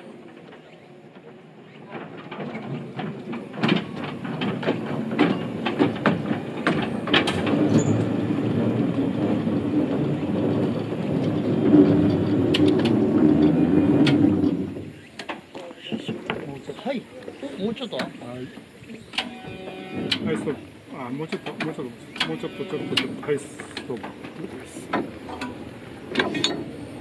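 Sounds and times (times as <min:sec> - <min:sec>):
wheels clattering over rails: 0:00.0 - 0:27.0.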